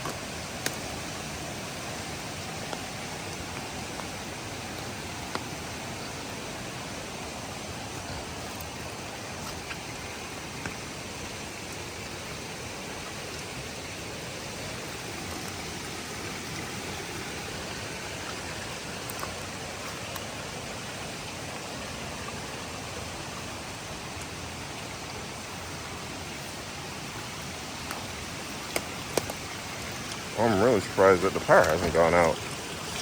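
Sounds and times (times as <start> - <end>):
stream rushing: 0.0 - 33.0.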